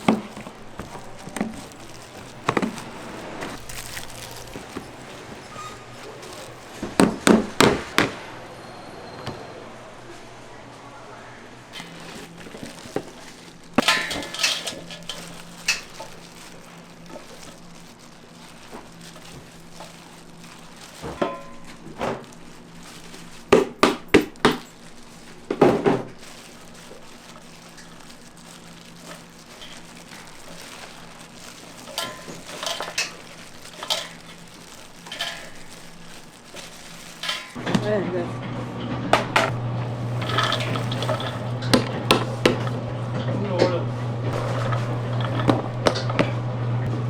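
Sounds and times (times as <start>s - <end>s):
utensils clinking on cookware: 0.0s - 8.1s, 11.7s - 37.8s, 40.2s - 42.8s, 43.6s - 46.4s.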